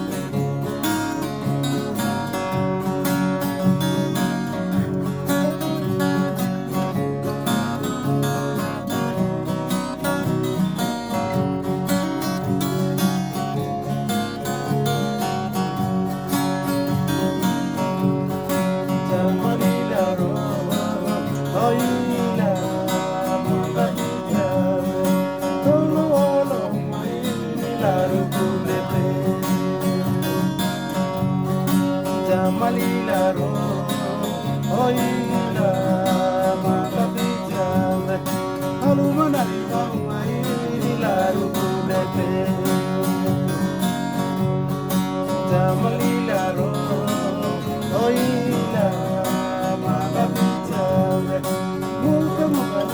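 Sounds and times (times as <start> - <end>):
acoustic guitars strummed: 0.0 - 52.9
voices singing: 0.0 - 52.9.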